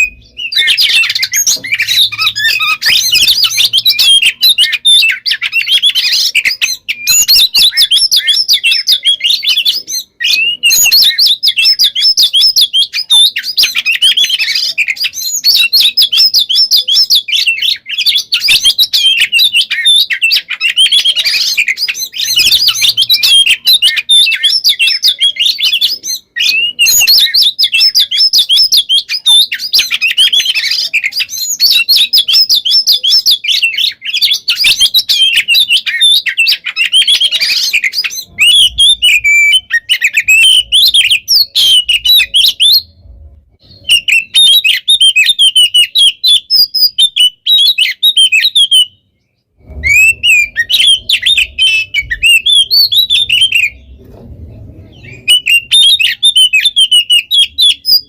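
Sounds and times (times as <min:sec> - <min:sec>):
bird singing rapid chirps and trills: 0:00.0 - 0:58.0.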